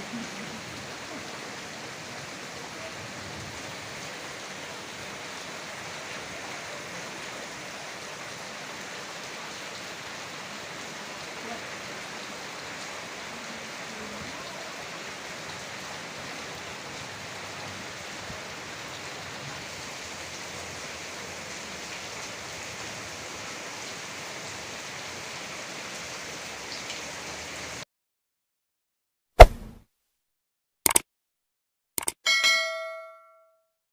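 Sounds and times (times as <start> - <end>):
heavy rain downpour: 0.0 - 27.8.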